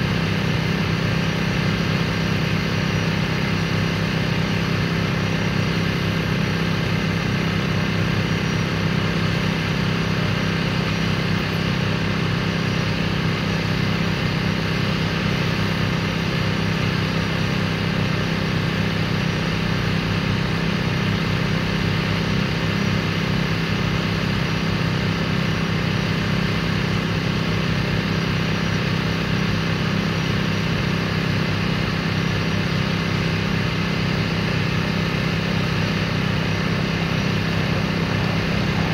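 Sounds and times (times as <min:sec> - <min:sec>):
engine droning steadily: 0:00.0 - 0:38.9.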